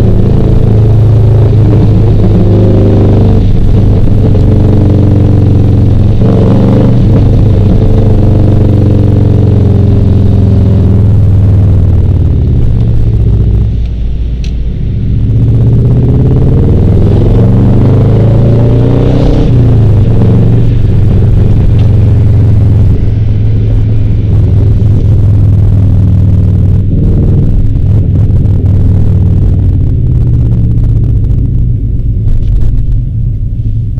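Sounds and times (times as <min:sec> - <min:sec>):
car exhaust drone: 0:00.0 - 0:33.9.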